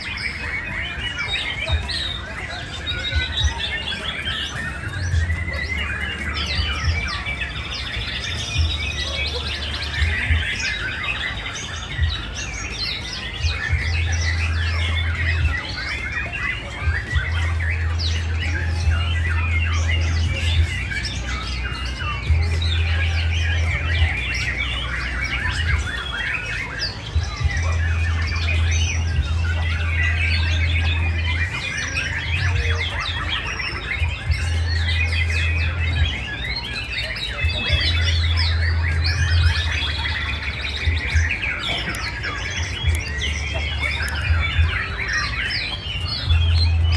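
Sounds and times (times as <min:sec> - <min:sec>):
chorus of songbirds singing: 0:00.0 - 0:46.9.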